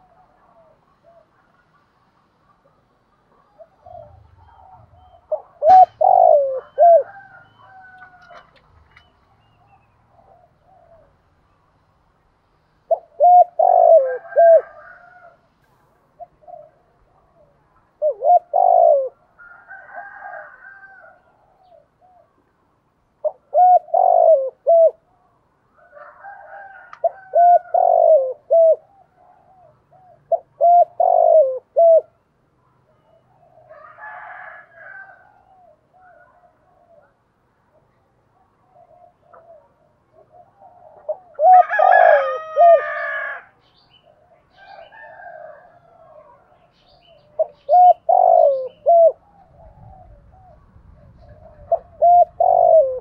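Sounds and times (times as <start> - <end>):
dove cooing: 0.0 - 11.4, 12.7 - 22.4, 23.2 - 25.2, 25.8 - 32.2, 32.9 - 53.0.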